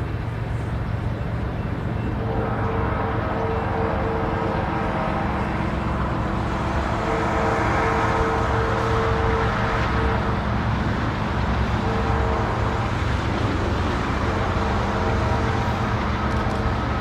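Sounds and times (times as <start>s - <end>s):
train rumbling and rolling: 0.0s - 17.0s.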